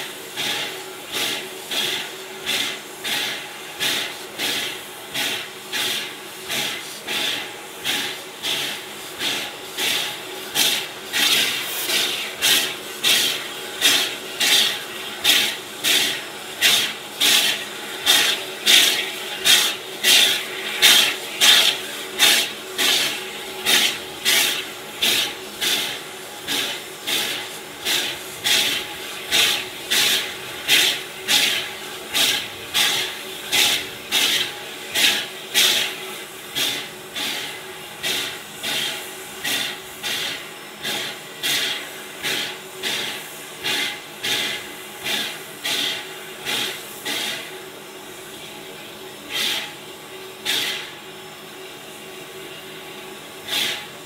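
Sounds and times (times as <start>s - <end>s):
steam hissing: 0.0s - 54.0s
steam locomotive chuffing: 0.0s - 54.0s.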